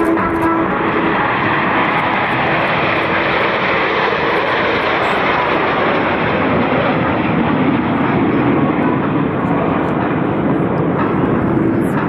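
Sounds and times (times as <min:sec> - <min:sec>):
jet engines flying overhead: 0:00.0 - 0:12.0.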